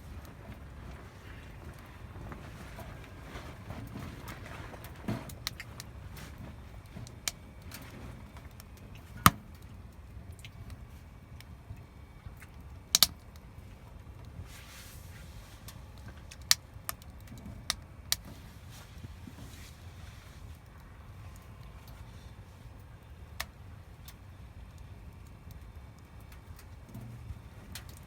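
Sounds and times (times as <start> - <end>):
low steady rumble: 0.0 - 28.0
wood fire crackling and popping: 0.0 - 28.0.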